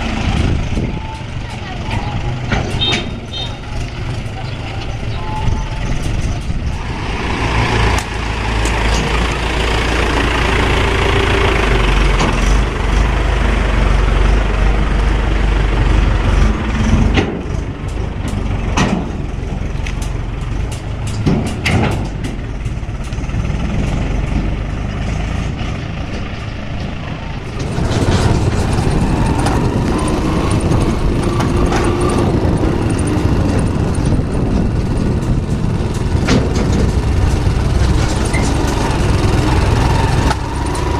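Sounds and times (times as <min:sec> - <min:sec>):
heavy diesel engines running: 0:00.0 - 0:40.9.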